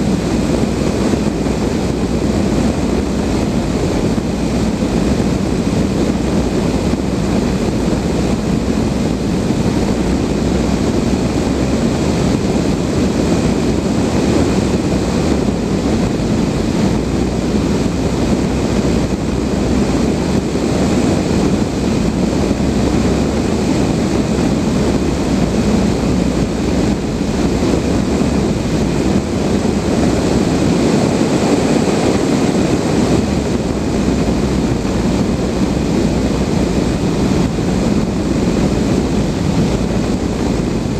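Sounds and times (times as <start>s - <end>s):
rushing airflow in glider cockpit: 0.0s - 40.9s
wind buffeting microphone: 0.0s - 40.9s.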